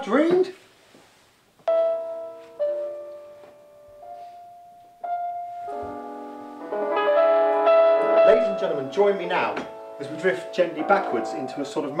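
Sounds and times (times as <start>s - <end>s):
slow soft piano music: 1.6s - 12.0s.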